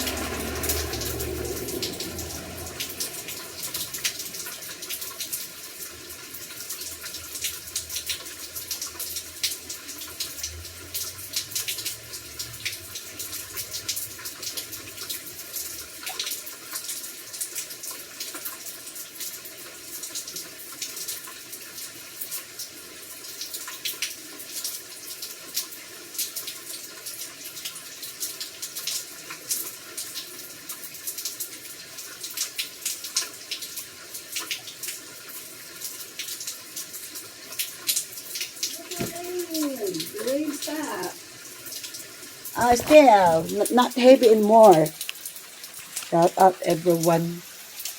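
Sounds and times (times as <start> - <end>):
rain drops tapping: 0.0 - 47.9.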